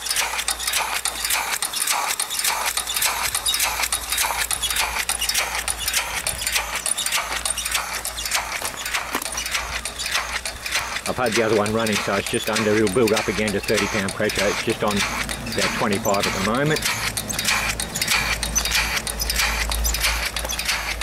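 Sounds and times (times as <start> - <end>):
steam engine chuffing: 0.0 - 21.0
steam hissing: 0.0 - 21.0.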